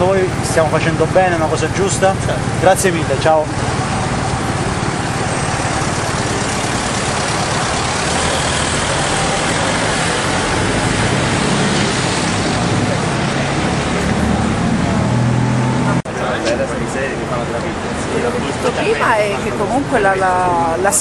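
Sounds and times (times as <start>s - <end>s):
cars rushing on road: 0.0s - 21.0s.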